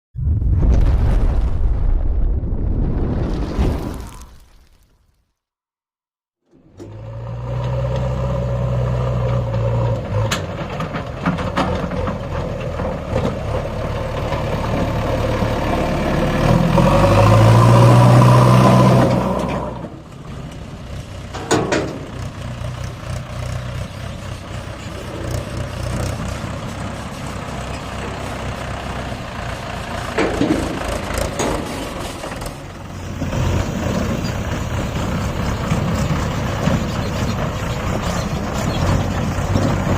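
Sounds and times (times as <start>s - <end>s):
tractor diesel engine working: 6.5s - 39.9s.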